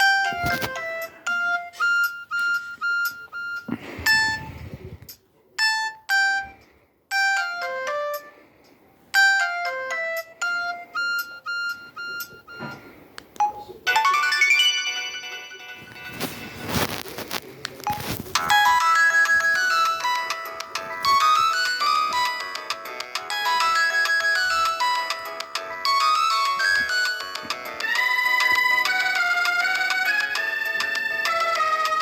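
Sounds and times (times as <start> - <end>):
phone beeping melodies: 0.0 - 5.0, 5.6 - 8.4, 9.1 - 32.0.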